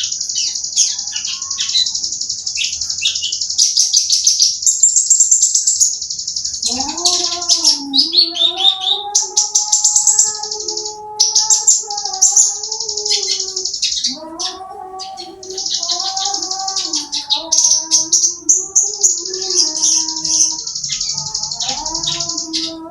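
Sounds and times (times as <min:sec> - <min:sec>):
bird singing rapid trills: 0:00.0 - 0:22.9.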